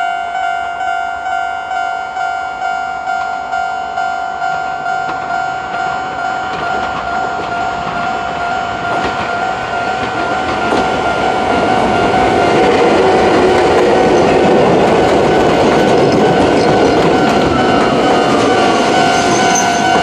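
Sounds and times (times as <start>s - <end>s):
level crossing alarm tone: 0.0s - 20.0s
train rumble and wheel clatter: 2.2s - 20.0s.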